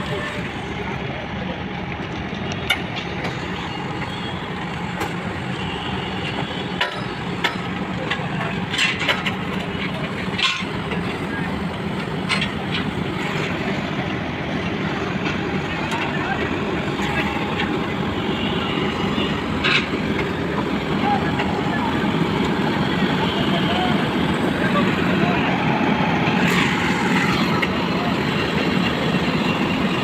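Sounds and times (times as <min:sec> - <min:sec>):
truck engine humming: 0:00.0 - 0:30.0.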